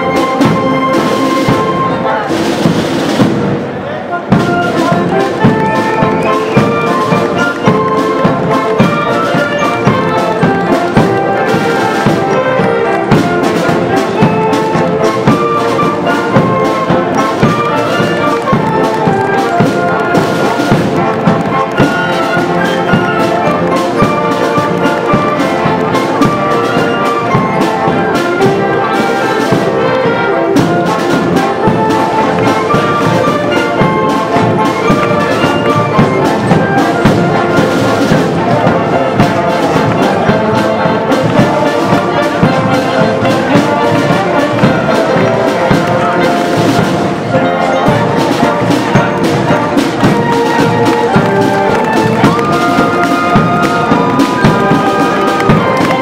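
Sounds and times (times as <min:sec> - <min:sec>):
brass band playing: 0:00.0 - 0:56.0
drums keeping a steady beat: 0:00.0 - 0:56.0.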